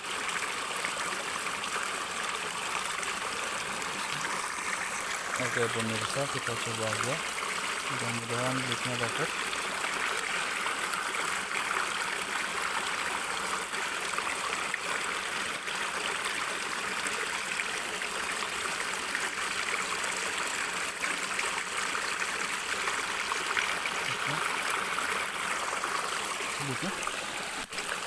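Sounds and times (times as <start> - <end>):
water flowing: 0.0 - 28.0.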